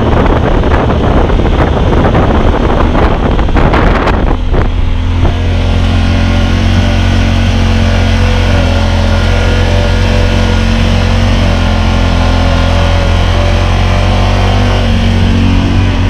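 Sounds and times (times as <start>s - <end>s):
engine droning at cruise: 0.0s - 16.0s.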